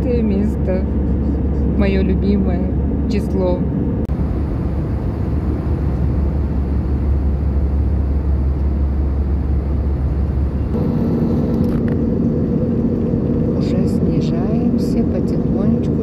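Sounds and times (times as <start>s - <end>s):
airliner cabin roar: 0.0s - 16.0s
steady low hum: 0.0s - 16.0s.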